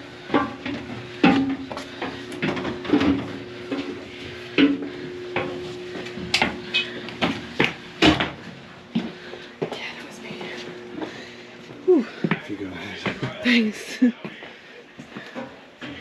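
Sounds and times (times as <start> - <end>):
footsteps on metal steps: 0.0 - 13.4
steady hum: 0.0 - 15.8.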